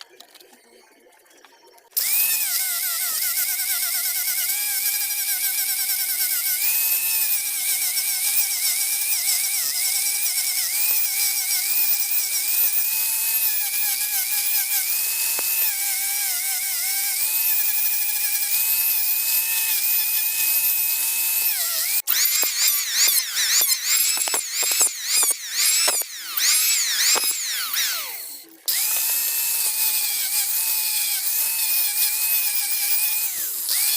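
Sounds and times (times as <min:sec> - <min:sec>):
rotary tool whining on wood: 0:02.0 - 0:33.9.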